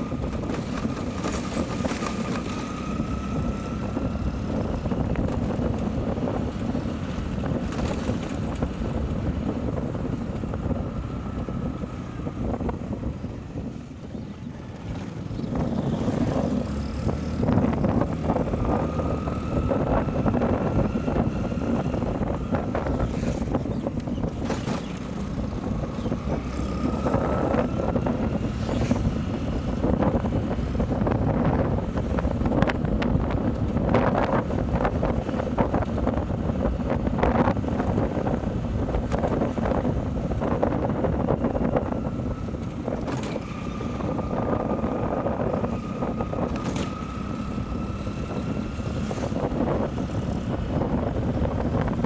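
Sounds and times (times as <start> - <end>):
motorcycle engine drone: 0.0 - 52.0
wind rush on microphone: 0.0 - 52.0.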